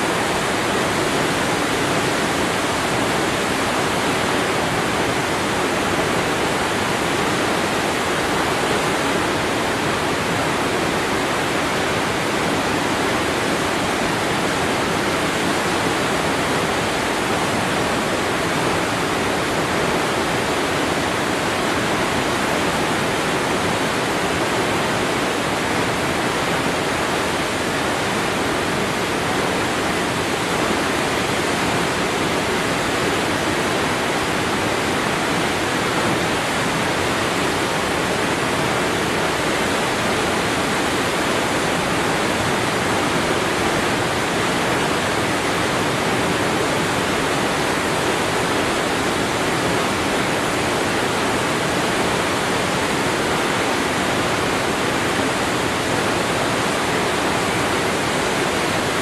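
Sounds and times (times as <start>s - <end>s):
waterfall crashing: 0.0s - 59.0s.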